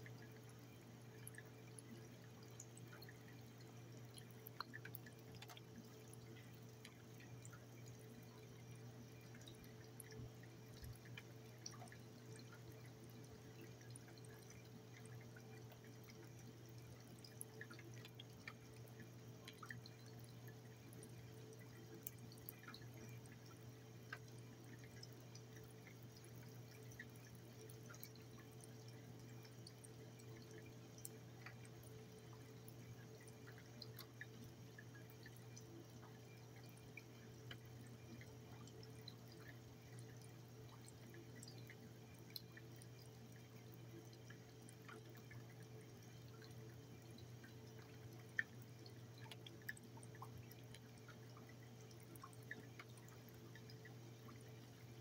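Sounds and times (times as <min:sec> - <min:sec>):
faint rainwater drips: 0:00.0 - 0:55.0.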